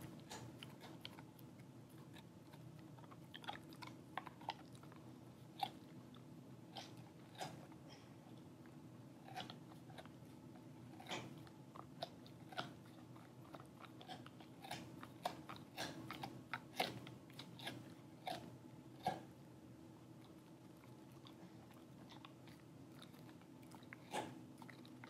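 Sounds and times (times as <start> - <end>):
dog chewing rawhide: 0.0 - 19.4, 20.0 - 25.0.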